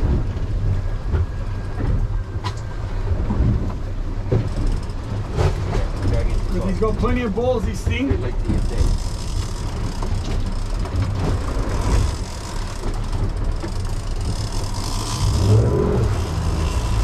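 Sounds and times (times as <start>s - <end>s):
boat motors rumbling: 0.0s - 17.0s
water wash: 0.0s - 17.0s.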